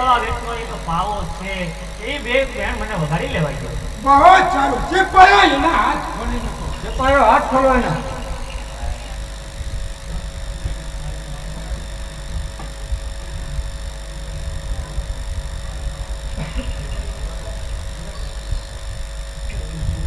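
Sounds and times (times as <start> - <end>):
electrical hum: 0.0 - 20.0
high whine: 0.0 - 20.0
steady low rumble: 0.0 - 20.0.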